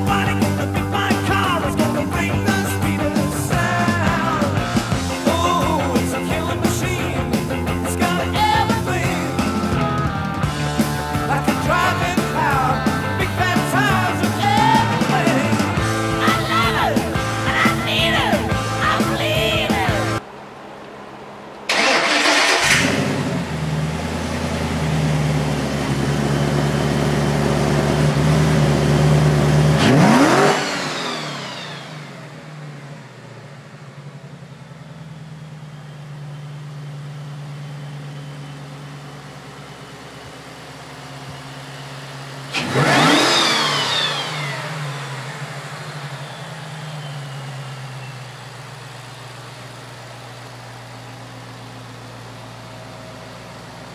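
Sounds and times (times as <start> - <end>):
car engine starting and revving: 0.0 - 20.2, 21.0 - 53.9.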